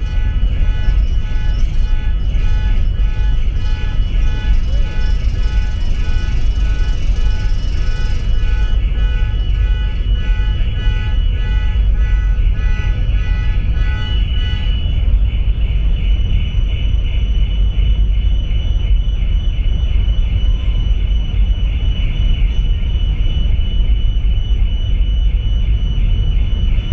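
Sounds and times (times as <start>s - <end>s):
low ferry rumble: 0.0s - 26.9s.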